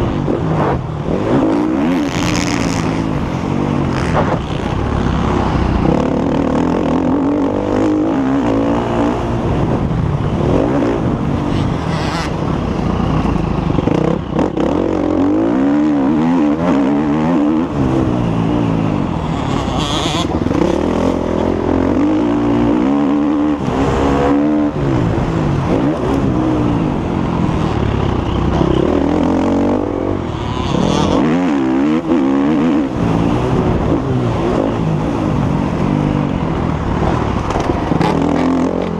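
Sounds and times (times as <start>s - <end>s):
motocross bike engine revving: 0.0s - 9.7s, 10.3s - 36.2s, 36.8s - 38.9s.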